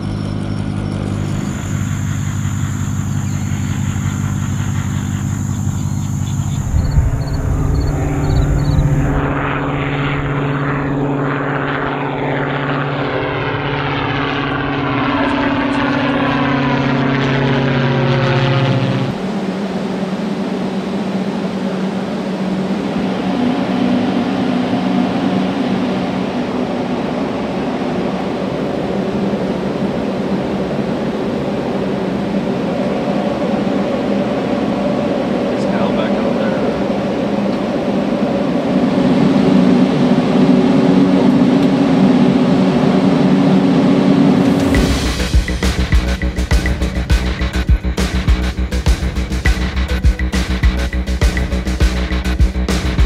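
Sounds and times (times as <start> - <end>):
drone propeller engine droning: 0.0 - 53.0
steady mechanical hum: 0.0 - 53.0.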